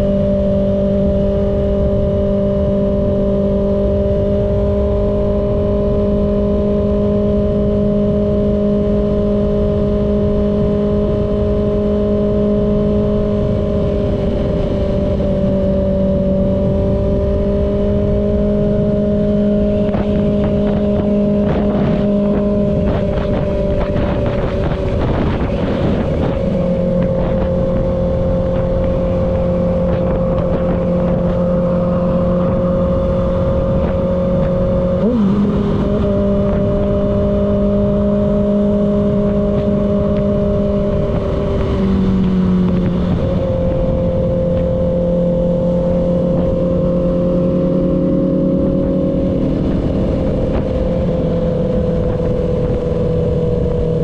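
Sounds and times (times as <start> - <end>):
motorcycle engine cruising: 0.0 - 54.0
wind rumble on microphone: 0.0 - 54.0.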